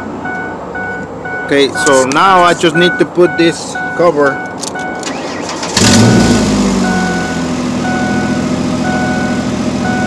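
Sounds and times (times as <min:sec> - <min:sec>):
car engine starting and idling: 0:00.0 - 0:10.0
car warning chime beeping: 0:00.0 - 0:10.0.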